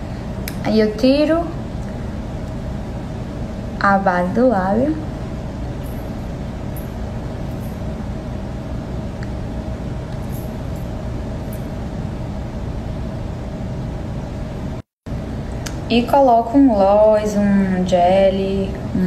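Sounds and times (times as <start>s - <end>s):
faint constant tone: 0.0s - 19.0s
low hum and rumble: 0.0s - 19.0s.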